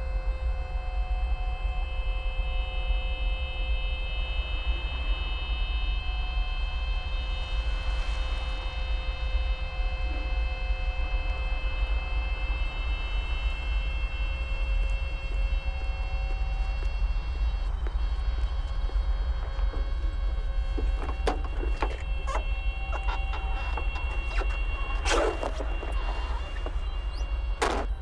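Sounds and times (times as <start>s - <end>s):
faint steady whining tones: 0.0s - 28.0s.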